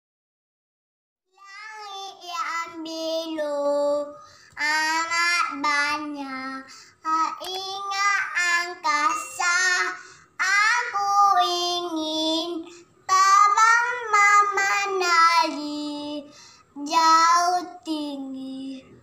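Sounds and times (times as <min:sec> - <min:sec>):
girl singing unaccompanied: 0:01.3 - 0:19.0.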